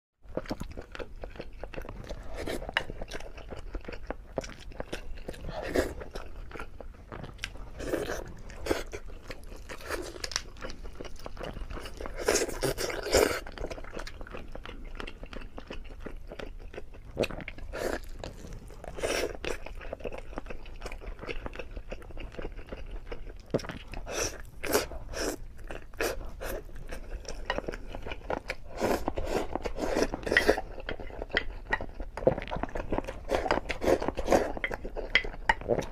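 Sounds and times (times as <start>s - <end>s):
person chewing food: 0.2s - 35.9s.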